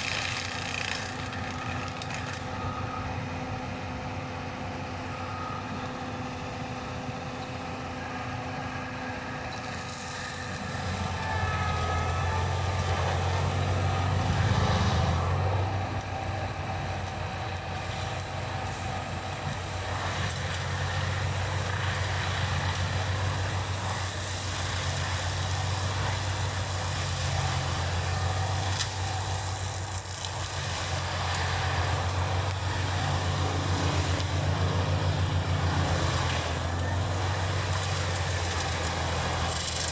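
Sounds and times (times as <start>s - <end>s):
mulcher shredding brush: 0.0s - 39.9s
tractor diesel engine running: 0.0s - 39.9s.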